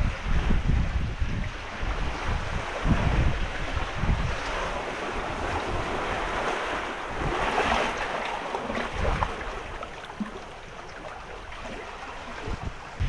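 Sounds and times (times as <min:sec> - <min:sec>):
small waves washing over sand: 0:00.0 - 0:13.0
wind buffeting microphone: 0:00.0 - 0:13.0.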